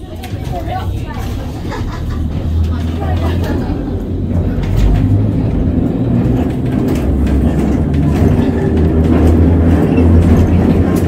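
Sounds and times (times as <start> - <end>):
tram rumbling along rails: 0.0 - 11.0.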